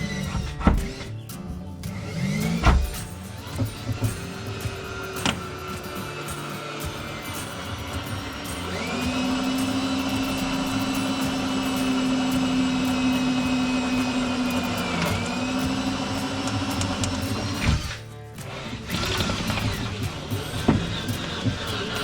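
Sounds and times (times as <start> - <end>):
electric drill drilling through steel: 2.0 - 22.0.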